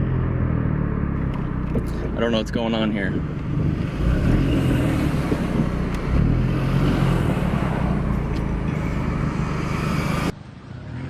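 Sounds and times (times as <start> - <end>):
car engines running: 0.0 - 11.0
tyre and road noise: 0.0 - 11.0
vehicles passing by: 0.0 - 11.0.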